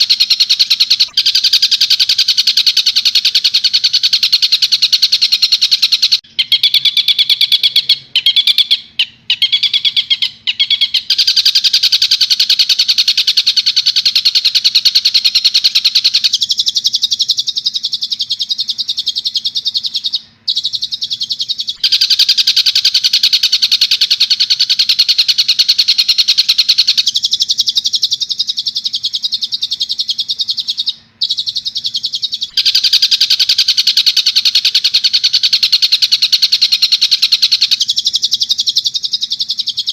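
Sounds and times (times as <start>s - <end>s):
kingfisher rapid high calls: 0.0s - 39.9s
lower scratchy bird song: 0.0s - 39.9s.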